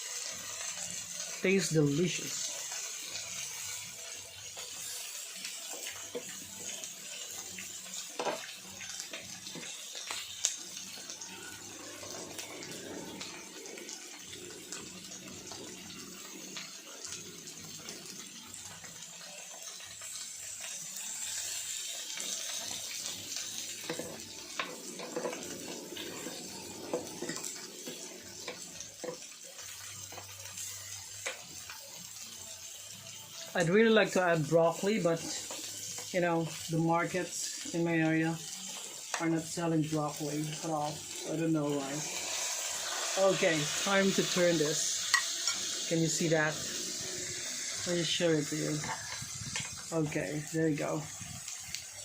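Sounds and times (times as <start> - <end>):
meat and fish sizzling on a grill pan: 0.0 - 52.0.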